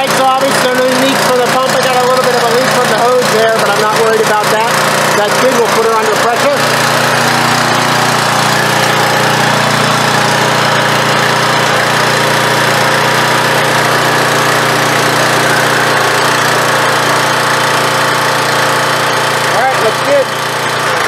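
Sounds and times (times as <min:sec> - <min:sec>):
pressure washer running steadily: 0:00.0 - 0:21.0.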